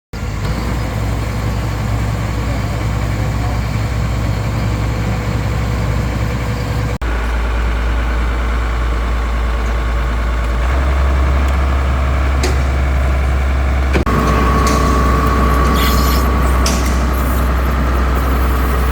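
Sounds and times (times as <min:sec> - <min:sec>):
large engine droning: 0:00.2 - 0:18.9.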